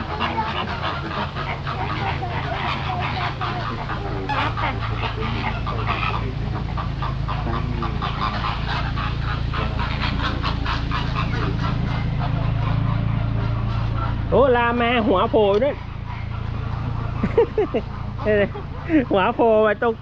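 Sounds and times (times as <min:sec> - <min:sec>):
flamingos honking and chattering: 0:00.0 - 0:20.0
steady low hum: 0:00.0 - 0:20.0.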